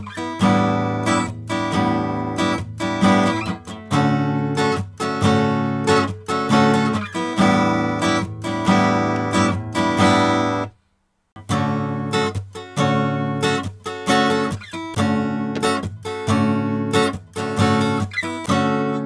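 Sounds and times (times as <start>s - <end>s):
acoustic guitar strummed: 0.0s - 10.8s, 11.4s - 19.0s.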